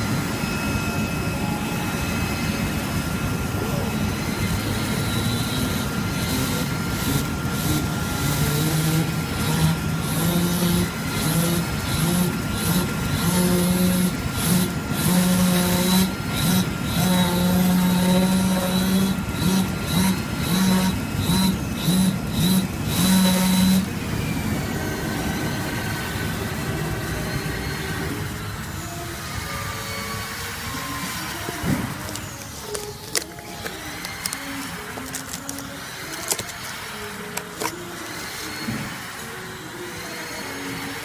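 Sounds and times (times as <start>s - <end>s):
cutting machine hum: 0.0s - 41.0s.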